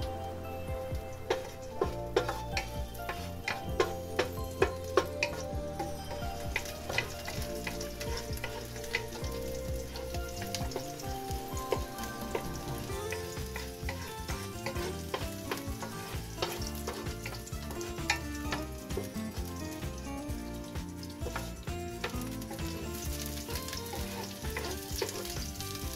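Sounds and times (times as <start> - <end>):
garlic sizzling in hot oil: 0.0 - 25.9
wooden spoon scraping a pan: 1.0 - 25.9.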